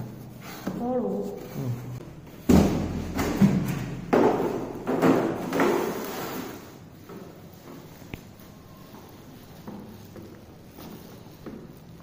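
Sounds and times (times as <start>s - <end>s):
cardboard and plastic rustling: 2.4s - 12.0s.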